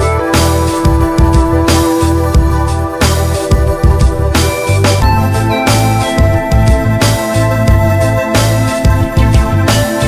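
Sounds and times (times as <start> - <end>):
electronic music with pulsing bass: 0.0 - 10.0.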